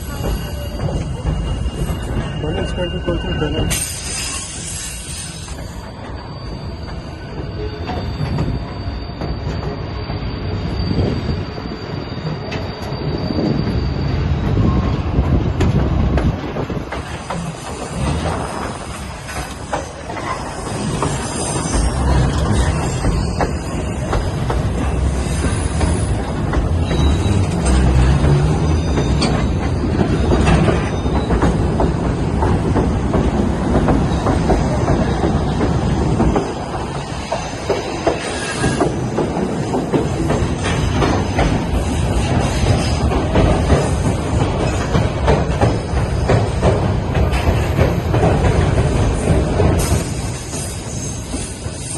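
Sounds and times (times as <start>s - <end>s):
train rolling on rails: 0.0s - 51.9s.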